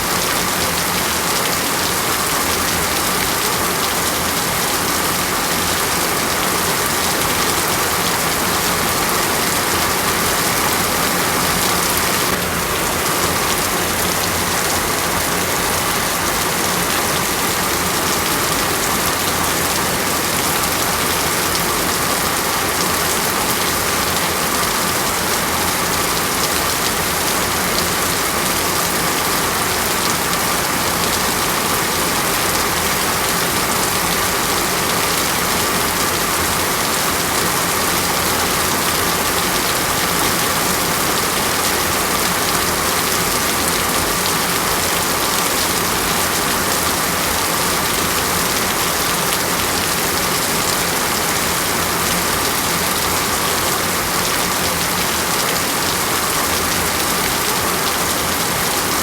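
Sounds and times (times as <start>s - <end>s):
dense rain hiss: 0.0s - 59.0s.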